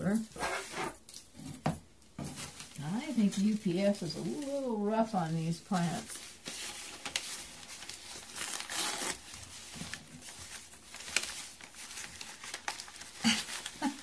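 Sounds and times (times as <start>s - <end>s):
packing material rustling: 2.2s - 14.0s.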